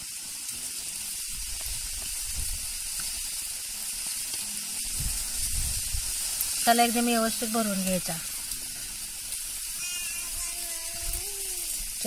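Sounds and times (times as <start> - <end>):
high background hiss: 0.0 - 12.0.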